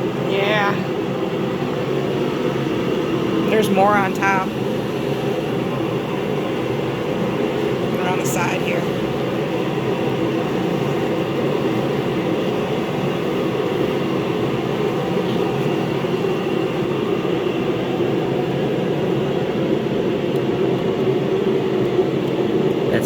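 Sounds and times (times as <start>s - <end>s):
machine droning: 0.0s - 23.0s.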